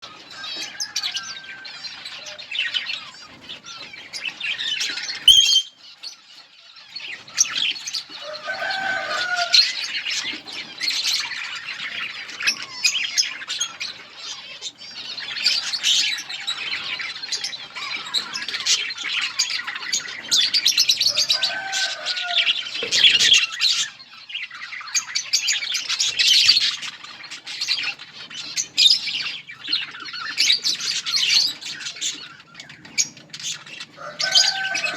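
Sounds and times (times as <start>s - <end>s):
budgerigars chirping and chattering: 0.0s - 34.9s
low long bird calls: 0.0s - 34.9s.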